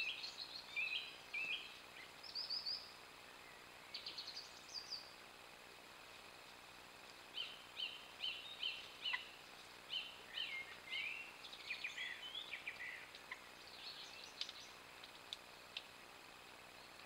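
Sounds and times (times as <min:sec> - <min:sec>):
song thrush singing: 0:00.0 - 0:05.3, 0:07.0 - 0:15.9.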